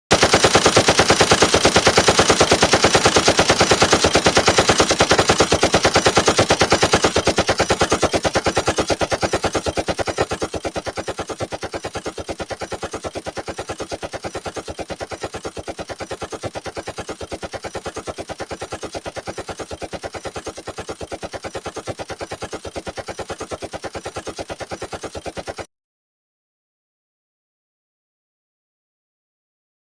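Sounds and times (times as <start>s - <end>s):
machine gun automatic fire: 0.1s - 25.7s.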